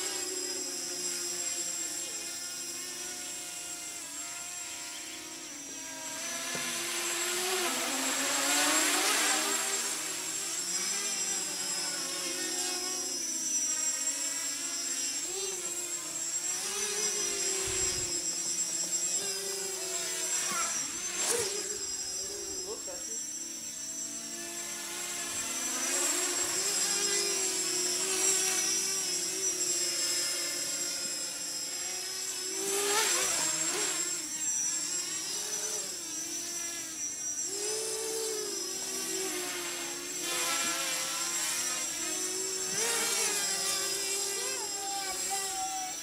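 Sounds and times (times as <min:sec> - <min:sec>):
drone motors buzzing: 0:00.0 - 0:46.0
steady high whine: 0:00.0 - 0:46.0.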